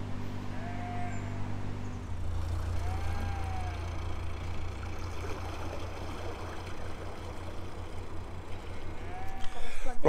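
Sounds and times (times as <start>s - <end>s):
diesel boat engine humming: 0.0s - 10.0s.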